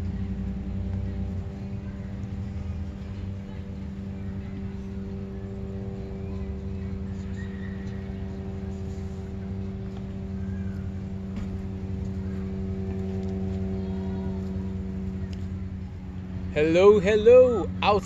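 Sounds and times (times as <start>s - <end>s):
steady low machine hum: 0.0s - 18.0s.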